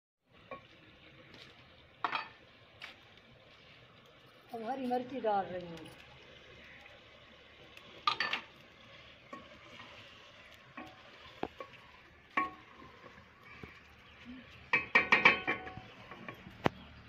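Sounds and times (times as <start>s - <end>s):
faint sizzle: 0.2s - 17.0s.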